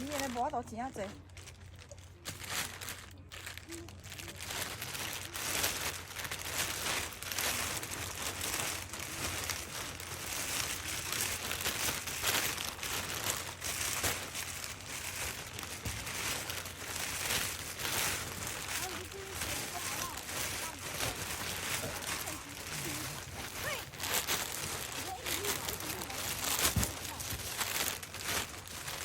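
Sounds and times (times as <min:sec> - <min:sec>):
bags rustling and crinkling: 0:00.0 - 0:29.0.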